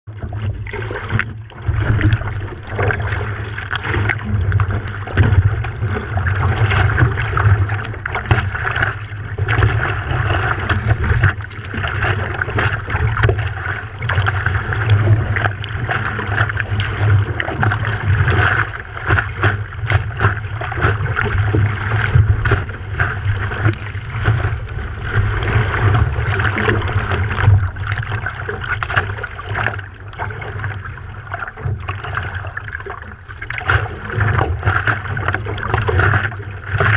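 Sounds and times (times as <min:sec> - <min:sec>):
water rushing and splashing: 0:00.1 - 0:36.9.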